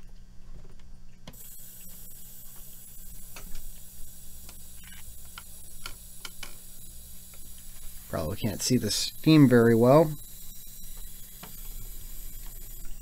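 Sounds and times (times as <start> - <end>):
low electrical hum: 0.0 - 13.0
steam hissing: 1.4 - 13.0.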